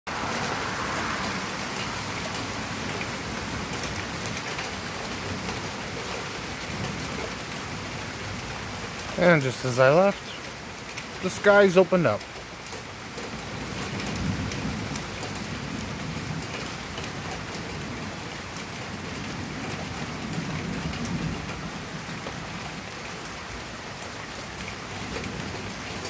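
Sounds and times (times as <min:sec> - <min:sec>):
heavy rain pouring: 0:00.1 - 0:26.0.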